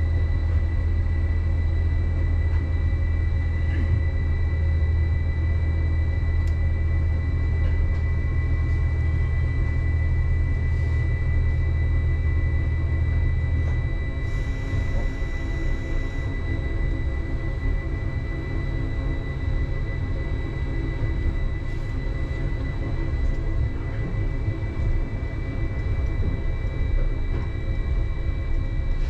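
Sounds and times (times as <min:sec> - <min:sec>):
train rumble: 0:00.0 - 0:29.0.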